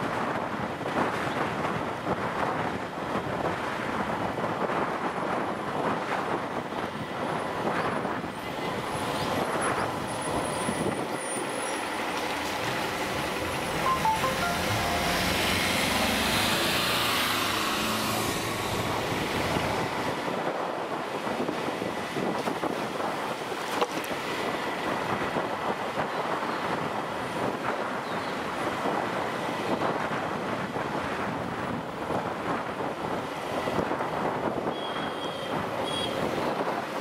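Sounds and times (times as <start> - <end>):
wind buffeting microphone: 0.0 - 13.8, 15.6 - 37.0
road noise: 0.0 - 37.0.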